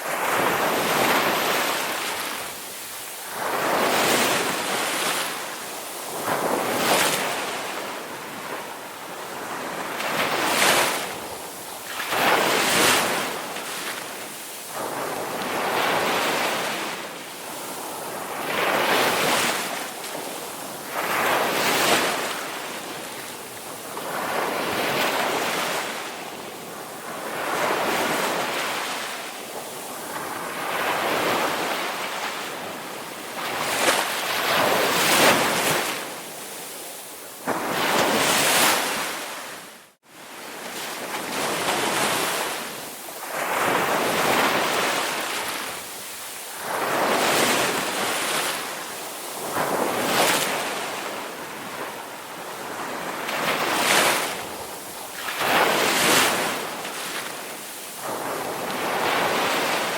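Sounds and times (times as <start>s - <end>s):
waves breaking and washing in: 0.0s - 59.9s.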